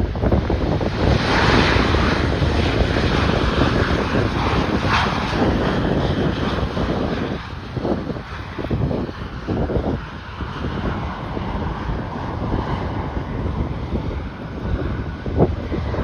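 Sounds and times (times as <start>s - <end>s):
aircraft engines passing: 0.0s - 16.0s
wind buffeting microphone: 0.0s - 16.0s.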